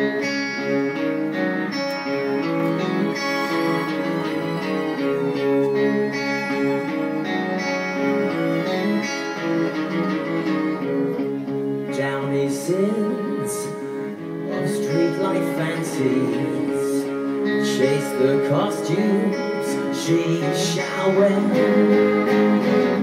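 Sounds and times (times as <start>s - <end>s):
string ensemble playing: 0.0s - 23.0s.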